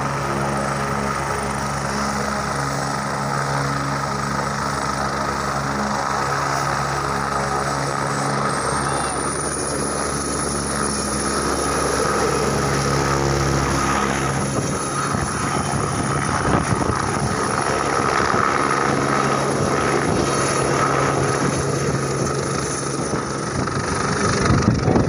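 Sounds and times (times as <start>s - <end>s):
helicopter rotor beat: 0.0s - 25.0s
turbine high whine: 0.0s - 25.0s.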